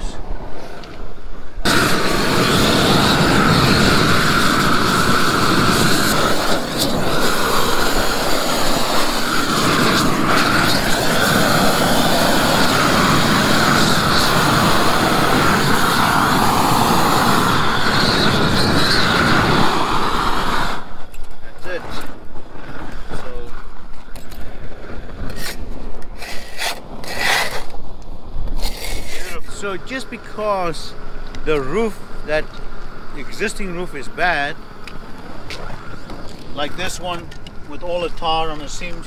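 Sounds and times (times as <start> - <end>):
propane torch burning: 1.5 - 39.0.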